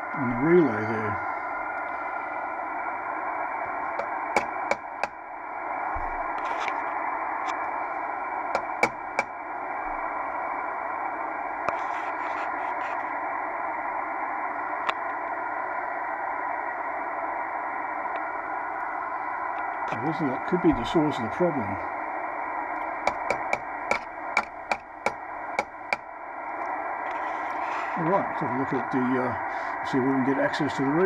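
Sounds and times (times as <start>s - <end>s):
radio receiver hiss: 0.0s - 31.0s.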